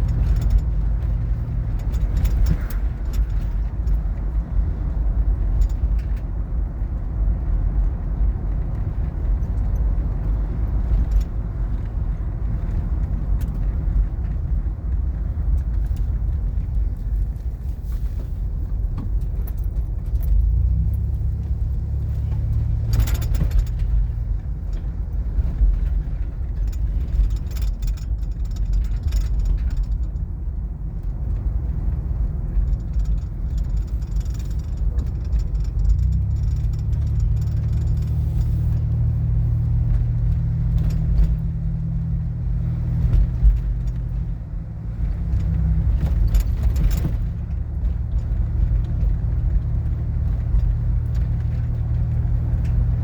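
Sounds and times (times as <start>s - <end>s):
road and engine rumble inside car: 0.0s - 53.0s.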